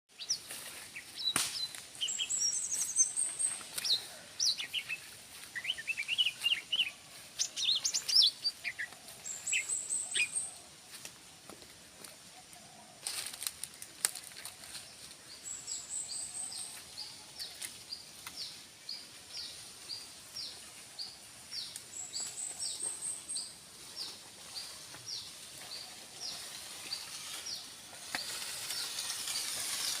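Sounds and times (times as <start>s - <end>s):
bird singing: 0.1s - 10.7s, 15.2s - 29.8s.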